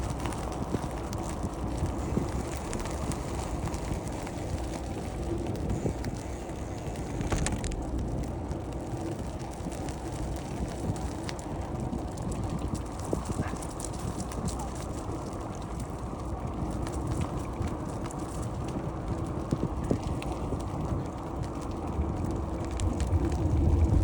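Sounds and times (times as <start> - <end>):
bicycle clicks and rattles: 0.0 - 24.0
wind buffeting microphone: 0.0 - 24.0.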